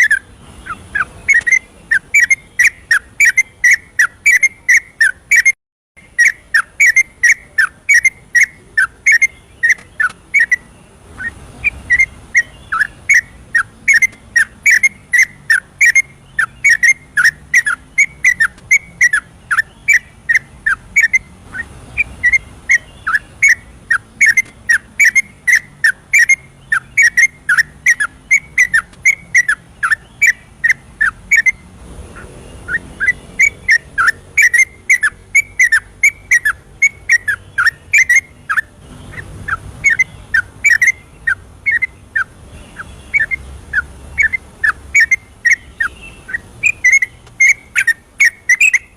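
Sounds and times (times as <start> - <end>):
bulbul singing whistled notes: 0.0 - 31.7, 32.5 - 48.9.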